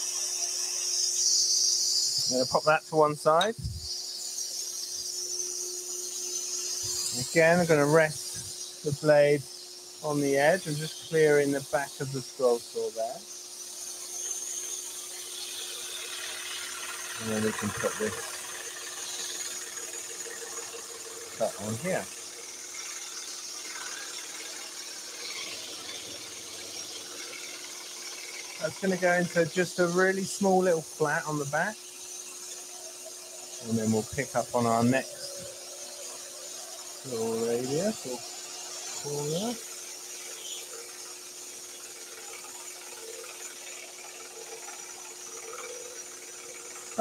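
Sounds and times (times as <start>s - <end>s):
scroll saw cutting wood: 0.0s - 47.0s.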